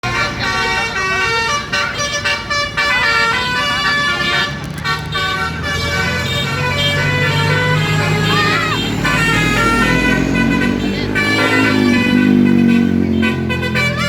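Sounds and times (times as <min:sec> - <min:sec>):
low engine rumble: 0:00.0 - 0:14.0
multi-tone air horn melody: 0:00.0 - 0:14.0.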